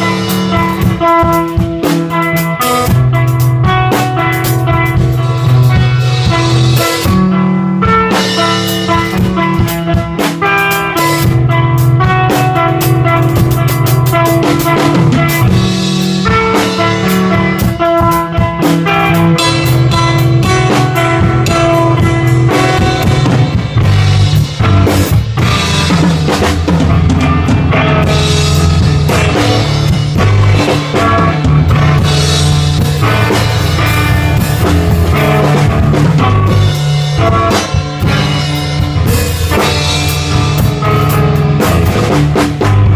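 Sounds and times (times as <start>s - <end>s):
drum kit with cymbals: 0.0s - 42.9s
electric guitar held notes: 0.0s - 42.9s.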